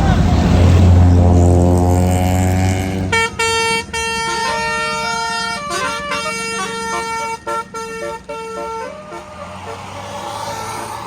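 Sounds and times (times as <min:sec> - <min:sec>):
bus engine running: 0:00.0 - 0:11.0
bus horn playing a tune: 0:01.1 - 0:11.0.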